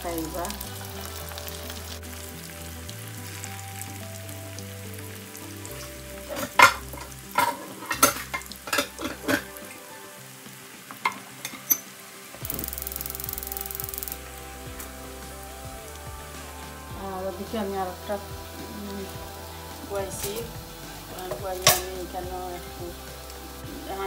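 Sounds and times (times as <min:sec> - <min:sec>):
food deep-frying in oil: 0:00.0 - 0:24.0.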